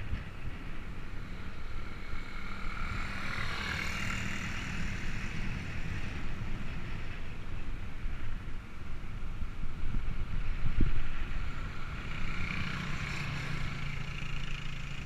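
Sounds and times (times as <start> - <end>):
wind rumbling on microphone: 0.0 - 14.2
passing vehicle hiss: 0.0 - 15.0
road noise: 0.0 - 15.0.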